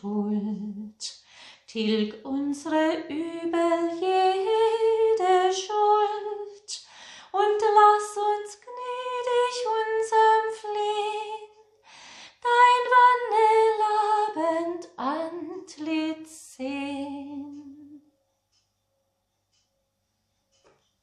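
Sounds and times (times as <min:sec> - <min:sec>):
woman singing a hymn: 0:00.0 - 0:11.5, 0:12.4 - 0:18.0.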